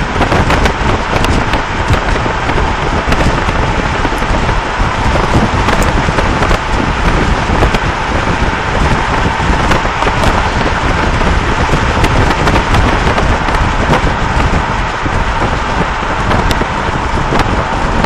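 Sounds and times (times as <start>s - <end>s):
wind and road noise in car: 0.0s - 18.0s.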